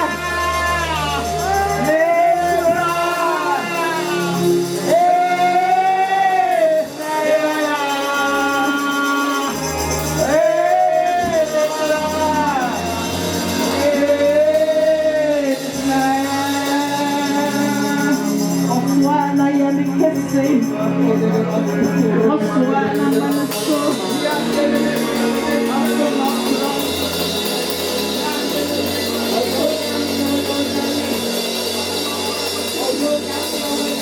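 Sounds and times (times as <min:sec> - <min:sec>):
keyboard and bass: 0:00.0 - 0:34.0
shaken percussion: 0:00.0 - 0:34.0.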